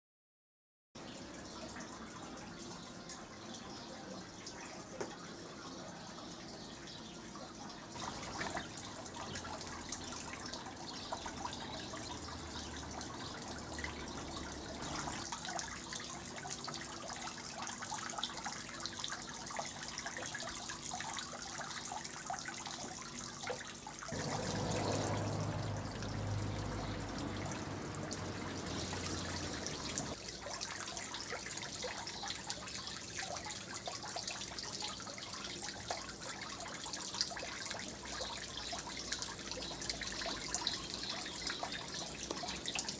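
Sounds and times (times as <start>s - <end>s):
fountain trickling and splashing: 1.0s - 42.9s.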